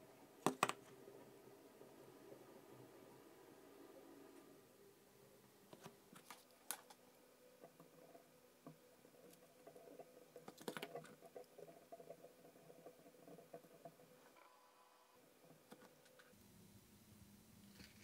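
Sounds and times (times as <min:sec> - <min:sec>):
faint room hum: 0:00.0 - 0:18.0.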